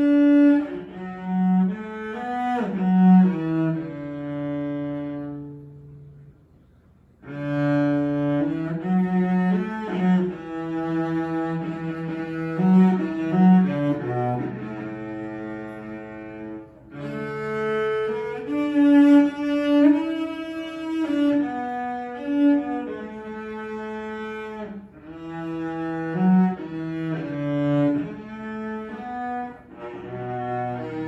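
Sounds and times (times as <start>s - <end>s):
solo cello playing slow melody: 0.0s - 6.4s, 7.2s - 31.0s.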